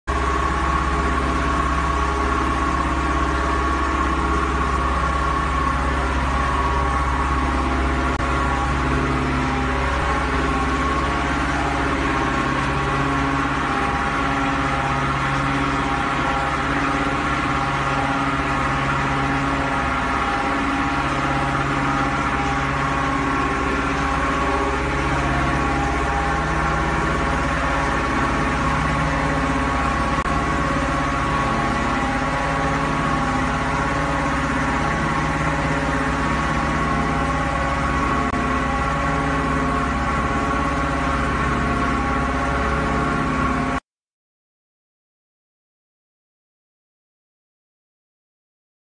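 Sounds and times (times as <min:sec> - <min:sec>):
plant machinery humming and rumbling: 0:00.1 - 0:43.8.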